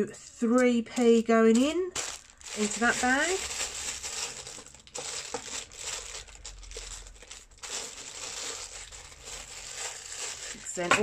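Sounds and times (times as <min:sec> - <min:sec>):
plastic bags crinkling: 0:01.0 - 0:11.0.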